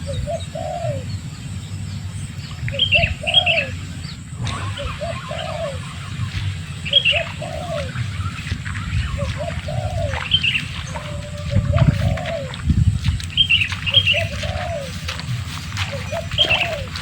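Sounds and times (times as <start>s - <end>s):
birds chirping: 0.0s - 17.0s
dove cooing: 0.0s - 17.0s
steady low rumble: 0.0s - 17.0s.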